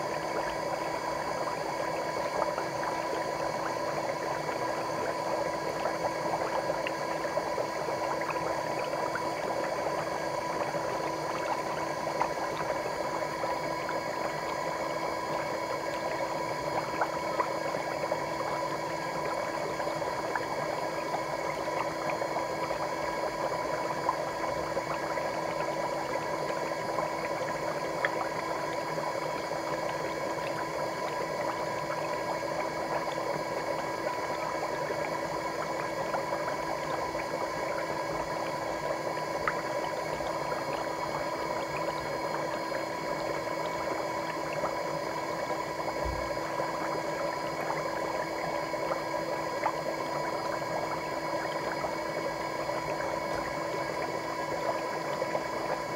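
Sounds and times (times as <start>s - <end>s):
motor hum: 0.0s - 55.9s
water bubbling with popping foam: 0.0s - 55.9s.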